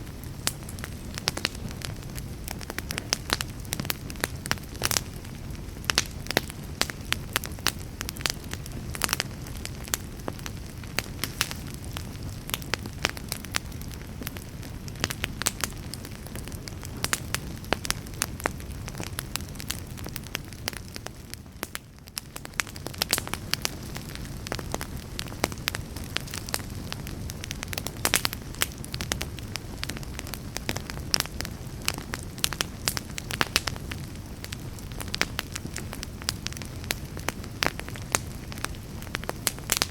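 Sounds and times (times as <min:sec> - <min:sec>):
burning logs crackling and popping: 0:00.0 - 0:39.9
fire flames rushing: 0:00.0 - 0:39.9.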